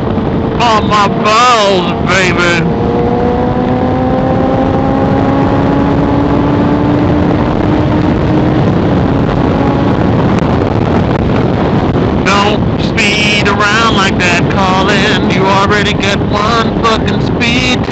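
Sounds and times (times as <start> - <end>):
motorcycle engine: 0.0 - 17.9
wind rush on helmet microphone: 0.0 - 17.9.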